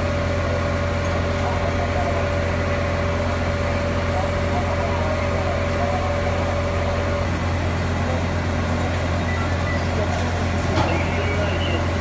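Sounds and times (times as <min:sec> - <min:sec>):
fire truck engine droning: 0:00.0 - 0:12.0
faint voices: 0:00.3 - 0:12.0.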